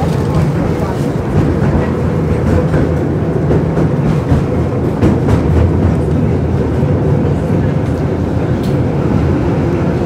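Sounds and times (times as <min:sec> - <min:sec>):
tram running gear rumble: 0:00.0 - 0:10.0.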